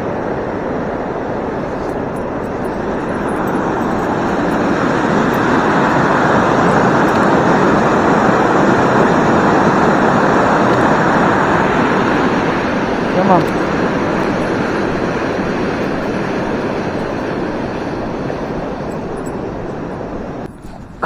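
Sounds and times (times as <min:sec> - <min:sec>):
river water pouring over weir: 0:00.0 - 0:19.3.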